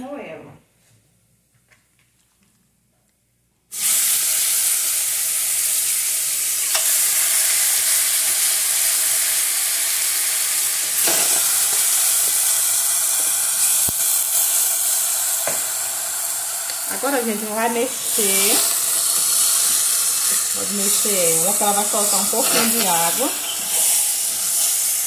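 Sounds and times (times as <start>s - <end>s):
meat sizzling in hot oil: 3.7s - 25.0s.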